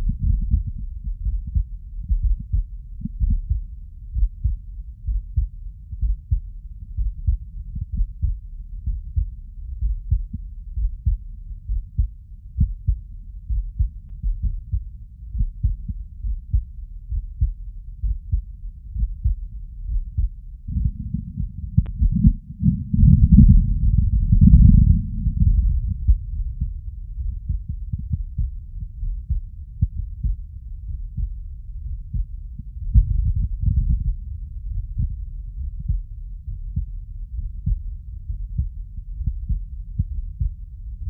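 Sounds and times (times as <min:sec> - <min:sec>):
heartbeat through stethoscope: 0:00.0 - 0:41.0.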